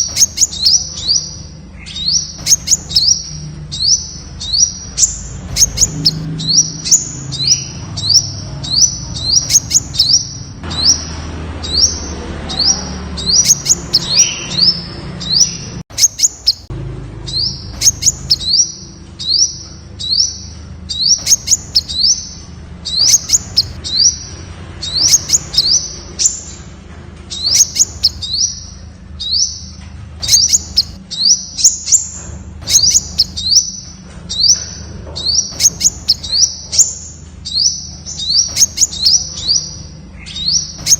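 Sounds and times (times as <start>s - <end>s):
bird singing high notes: 0.0s - 16.7s, 17.3s - 26.6s, 27.3s - 40.9s.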